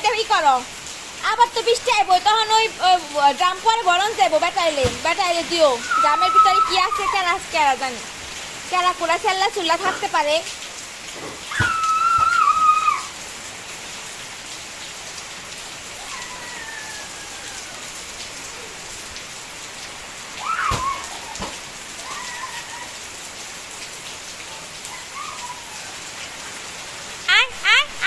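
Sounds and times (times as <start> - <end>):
rain on ground and roofs: 0.0 - 28.0.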